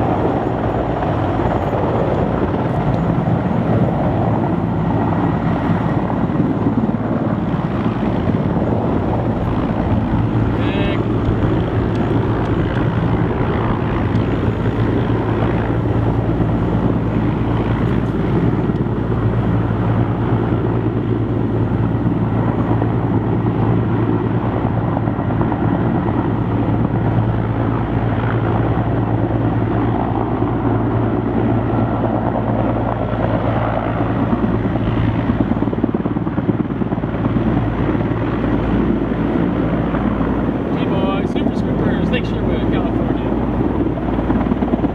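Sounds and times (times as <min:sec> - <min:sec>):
helicopter rotor drone: 0:00.0 - 0:44.9.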